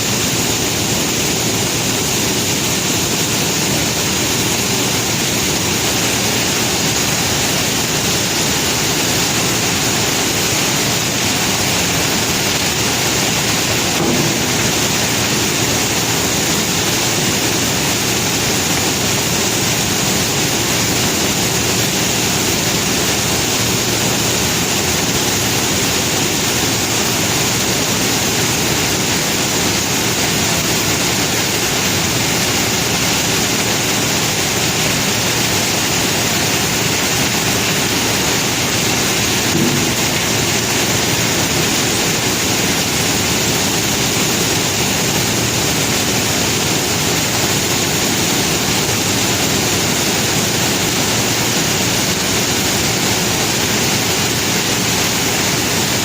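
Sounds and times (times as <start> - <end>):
conveyor belt carrying rock: 0.0 - 56.0.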